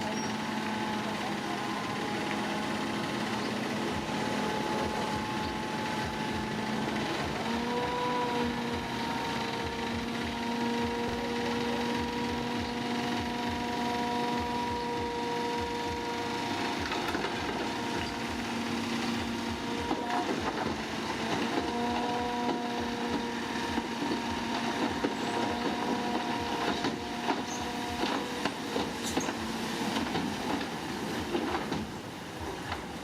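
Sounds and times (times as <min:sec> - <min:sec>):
heavy machinery rumbling with whine: 0:00.0 - 0:33.0.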